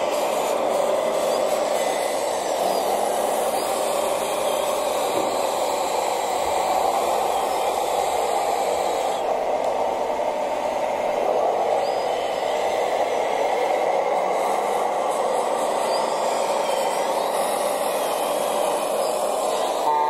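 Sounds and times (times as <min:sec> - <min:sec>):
electric motors and pump whirring: 0:00.0 - 0:20.0.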